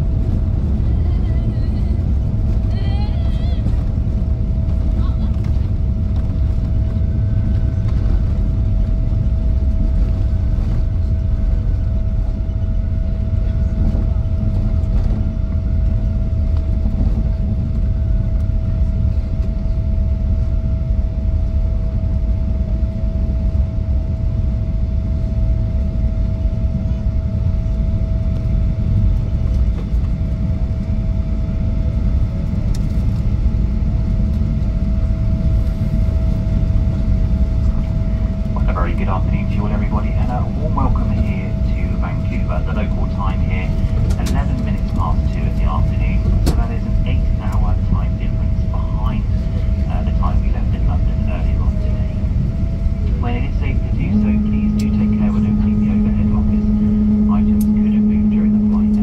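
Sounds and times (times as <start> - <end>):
roar of engines and airflow: 0.0 - 59.0
steady whine: 0.0 - 59.0.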